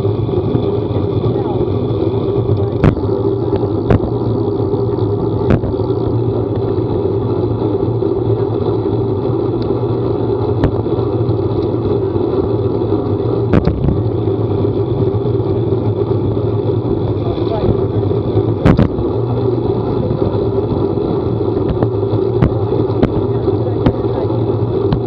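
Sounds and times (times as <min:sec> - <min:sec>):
road noise: 0:00.0 - 0:25.0
vehicle engine drone: 0:00.0 - 0:25.0.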